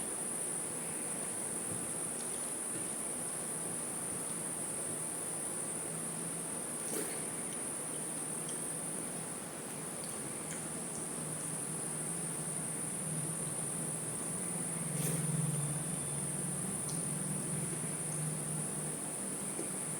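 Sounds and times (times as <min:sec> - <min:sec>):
crickets chirping: 0:00.0 - 0:19.9.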